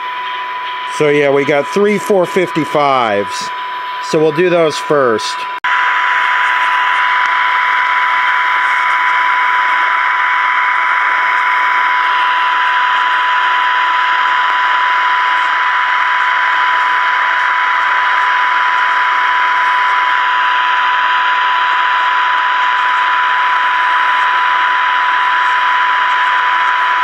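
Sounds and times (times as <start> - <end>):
high-pitched test tone: 0.0 - 27.0
radio hiss: 0.7 - 27.0.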